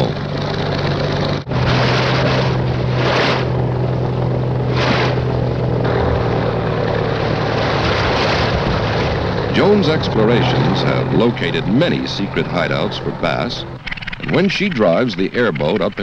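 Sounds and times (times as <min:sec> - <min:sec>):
airboat engine and propeller: 0:00.0 - 0:16.0.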